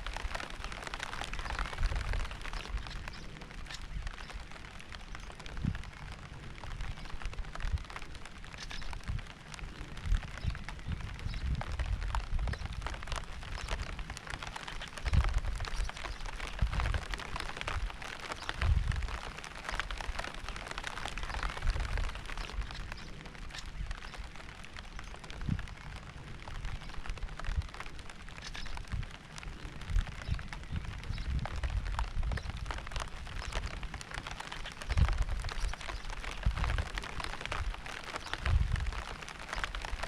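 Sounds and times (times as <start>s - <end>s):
raindrops ticking: 0.0s - 40.0s.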